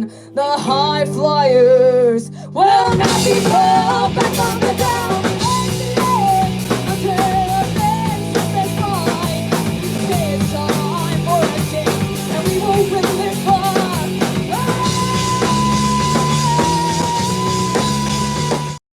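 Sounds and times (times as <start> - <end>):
distorted electric guitar and bass: 2.9 - 18.8
drum kit hits: 2.9 - 18.8.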